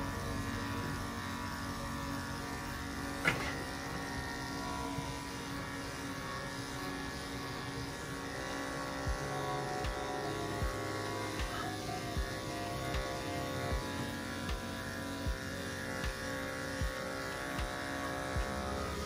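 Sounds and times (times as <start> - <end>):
electric dog clippers buzzing: 0.0 - 19.0.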